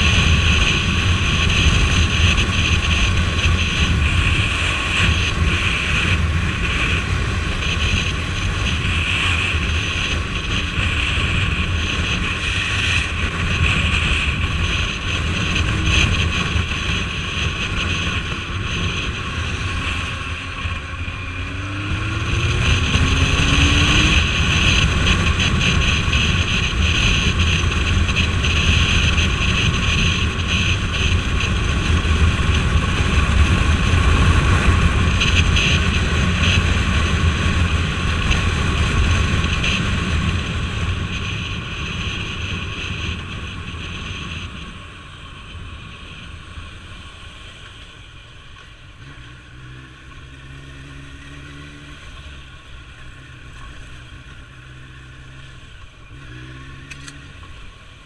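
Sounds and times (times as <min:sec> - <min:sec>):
motorcycle engine: 0:00.0 - 0:58.0
road noise: 0:00.0 - 0:58.0.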